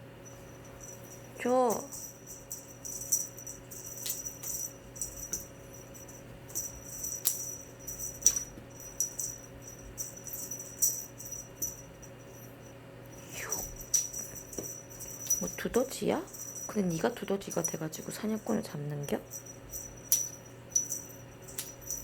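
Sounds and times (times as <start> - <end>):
cat toy jingling: 0.2 - 22.0.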